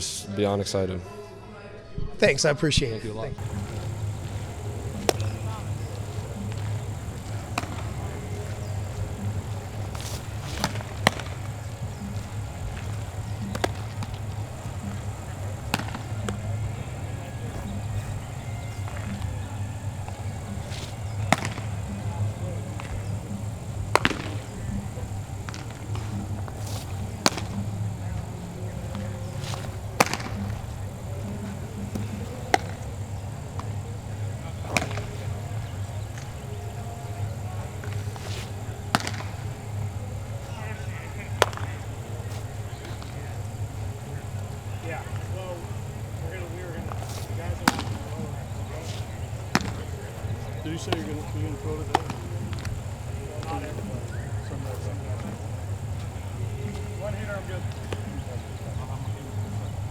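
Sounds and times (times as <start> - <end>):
baseballs smacking: 3.4 - 59.9
steady low hum: 3.4 - 59.9.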